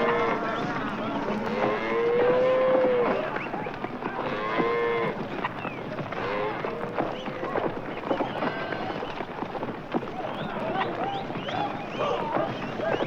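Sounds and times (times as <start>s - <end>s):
clatter of hooves: 0.0s - 13.0s.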